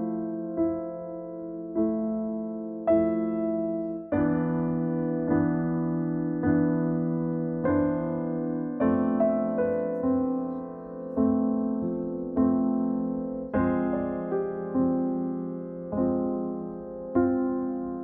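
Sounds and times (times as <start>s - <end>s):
slow electric piano chords: 0.0s - 18.0s.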